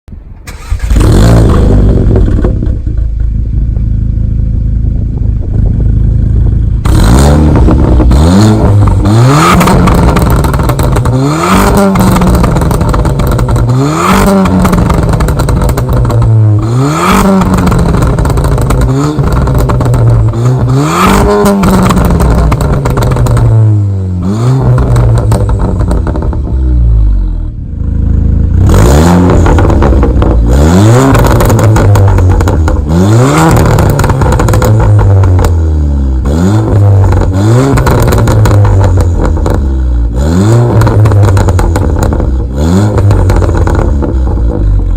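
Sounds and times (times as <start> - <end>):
car engine revving: 0.3 - 44.9
exhaust pops and crackles: 0.4 - 4.2, 4.9 - 23.8, 24.6 - 26.8, 28.1 - 44.9.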